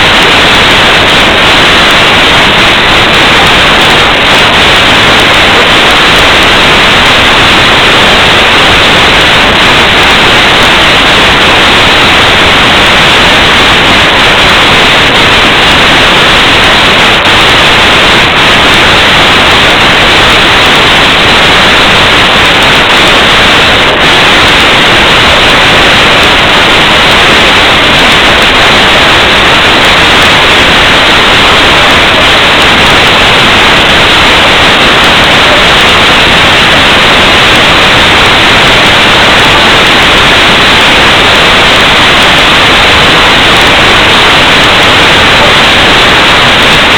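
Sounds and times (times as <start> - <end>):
loud static hiss: 0.0 - 46.9.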